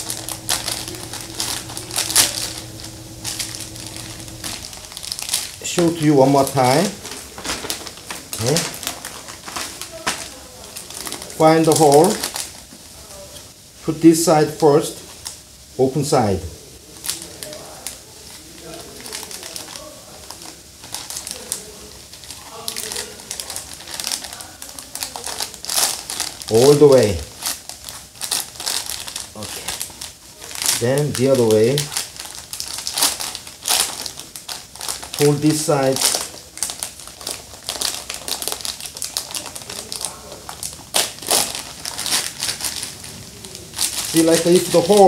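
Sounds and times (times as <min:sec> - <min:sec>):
plastic film crinkling: 0:00.0 - 0:13.7, 0:16.8 - 0:45.0.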